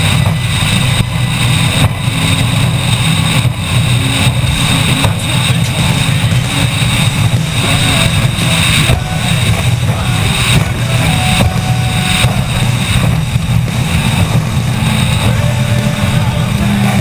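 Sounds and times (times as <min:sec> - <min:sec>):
powerboat engines droning: 0:00.0 - 0:17.0
wind and water hiss: 0:00.0 - 0:17.0.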